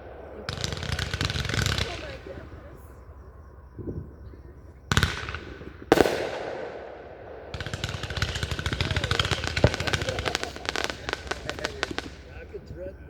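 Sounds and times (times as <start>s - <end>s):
fireworks booms: 0.0s - 13.0s
fireworks crackling: 0.0s - 13.0s.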